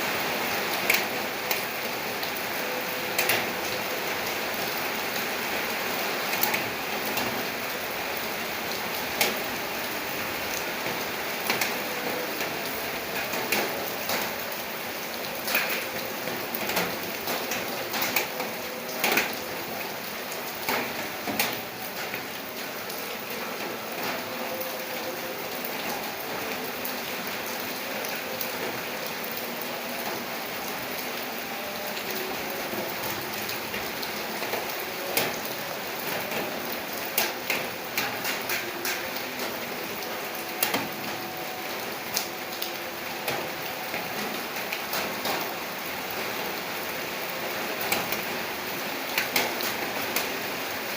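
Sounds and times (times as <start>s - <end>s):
steady rain hiss: 0.0s - 50.9s.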